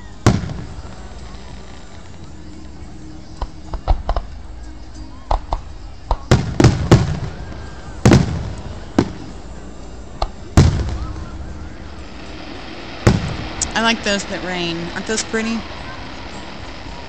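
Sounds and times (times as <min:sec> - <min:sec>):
firework shells bursting: 0:00.2 - 0:02.4, 0:03.4 - 0:17.0.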